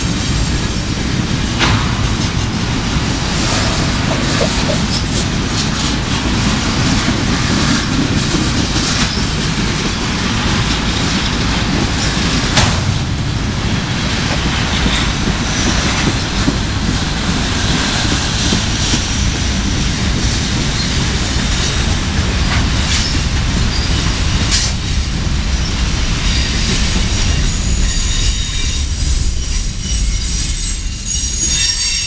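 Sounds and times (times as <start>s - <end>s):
train car clank: 0.0s - 32.0s
train wheels rumbling on rails: 0.0s - 32.0s.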